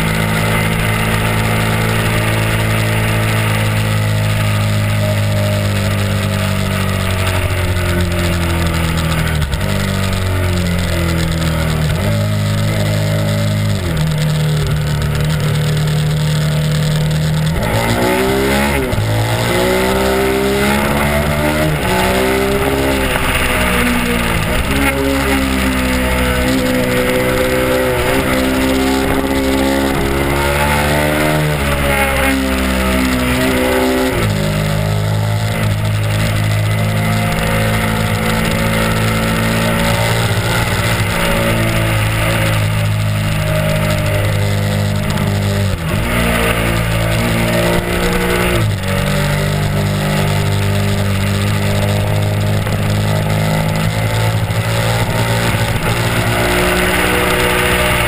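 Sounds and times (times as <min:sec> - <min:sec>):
motorcycle engine running: 0:00.0 - 0:58.0
wind noise: 0:00.0 - 0:58.0.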